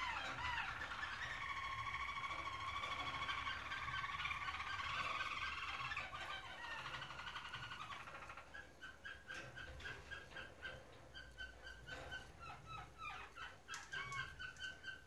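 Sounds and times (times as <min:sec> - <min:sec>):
canary singing rolling trills: 0:00.0 - 0:15.0.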